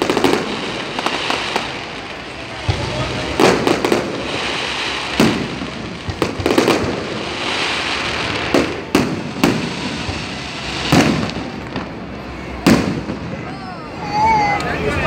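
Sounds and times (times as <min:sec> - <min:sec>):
steady hiss: 0:00.0 - 0:14.0
fireworks bursting: 0:00.0 - 0:14.8.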